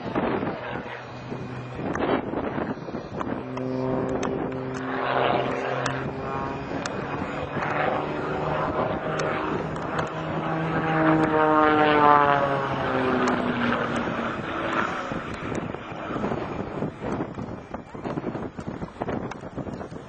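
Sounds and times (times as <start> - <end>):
propeller plane engine: 0.0 - 20.0.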